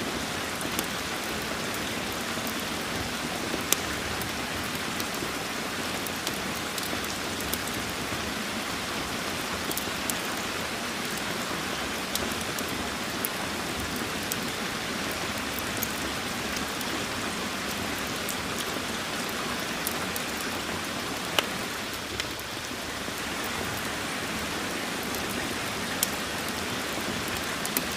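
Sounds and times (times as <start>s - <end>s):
steady rain: 0.0s - 27.9s
wood fire crackling: 0.4s - 27.9s.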